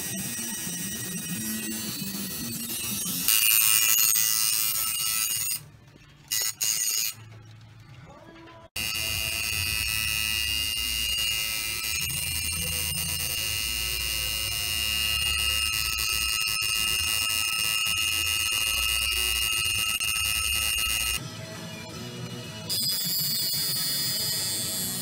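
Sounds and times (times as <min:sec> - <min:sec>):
tattoo machine buzzing: 0:00.0 - 0:05.6, 0:06.3 - 0:07.2, 0:08.8 - 0:21.2, 0:22.7 - 0:25.0.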